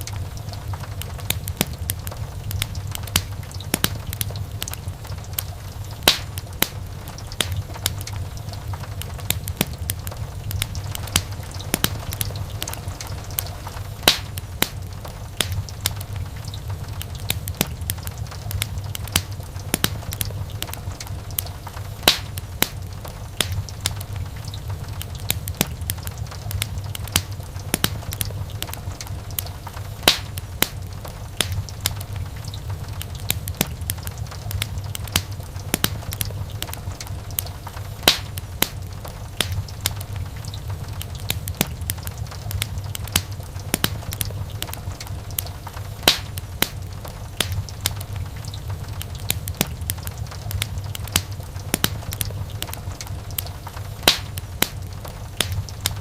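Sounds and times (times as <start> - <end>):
flames rumbling: 0.0 - 56.0
wood fire crackling and popping: 0.0 - 56.0.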